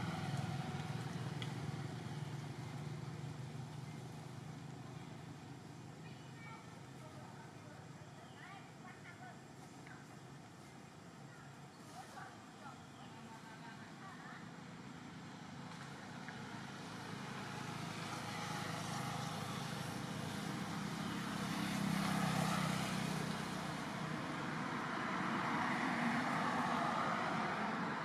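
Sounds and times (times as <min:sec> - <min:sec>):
passing motor traffic: 0:00.0 - 0:28.0.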